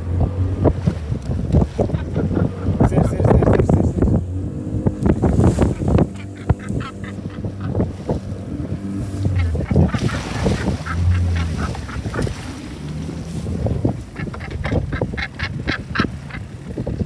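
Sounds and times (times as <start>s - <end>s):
boat engine droning: 0.0s - 17.0s
waves slapping against hull: 0.0s - 17.0s.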